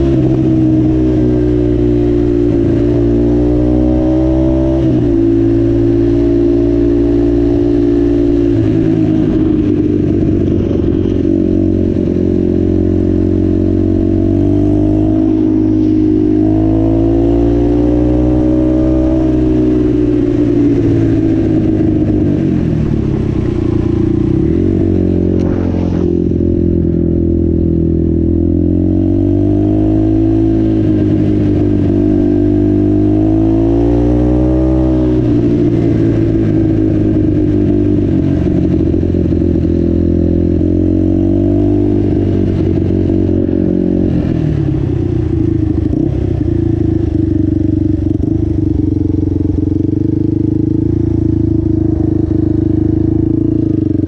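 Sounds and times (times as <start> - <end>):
quad engine running: 0.0 - 54.0.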